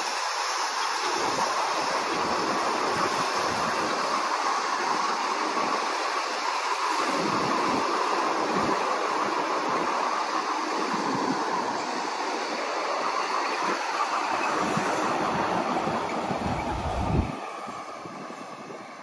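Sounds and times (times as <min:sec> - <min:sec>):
steel wheels rolling on rails: 0:00.0 - 0:19.0.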